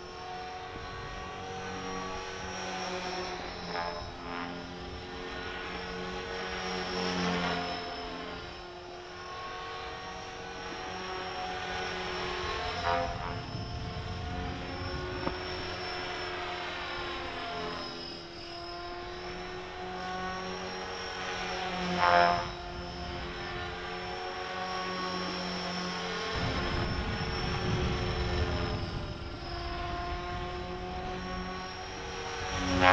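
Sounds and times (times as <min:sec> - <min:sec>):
rc helicopter motor whine: 0:00.0 - 0:32.9.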